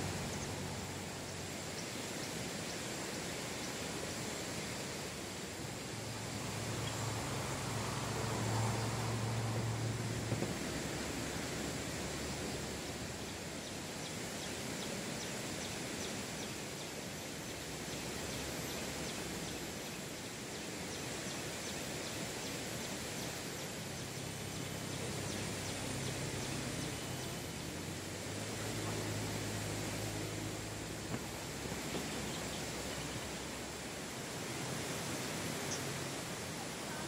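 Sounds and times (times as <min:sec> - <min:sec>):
even outdoor hiss: 0:00.0 - 0:37.0.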